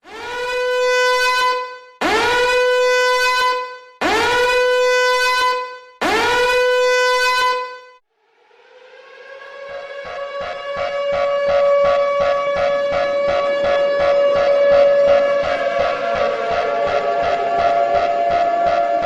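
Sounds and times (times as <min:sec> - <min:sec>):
alarm horn blasts: 0:00.1 - 0:08.0, 0:08.7 - 0:19.0.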